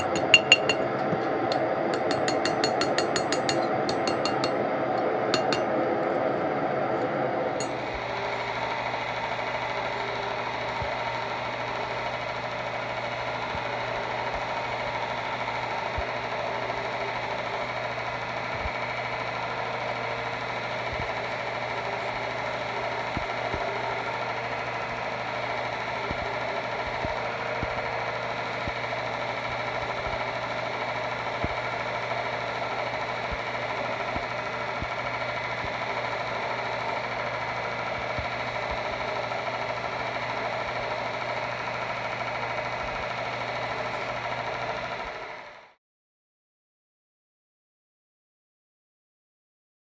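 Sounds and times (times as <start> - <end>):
machine motor humming: 0.0 - 45.7.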